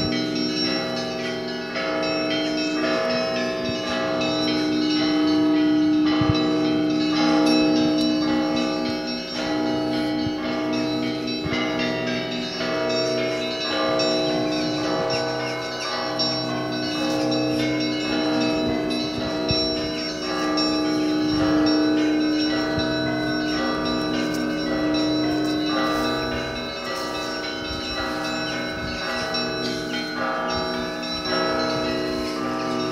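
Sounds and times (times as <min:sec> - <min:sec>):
church bells pealing: 0:00.0 - 0:32.9
low bell struck rhythmically: 0:00.0 - 0:32.9.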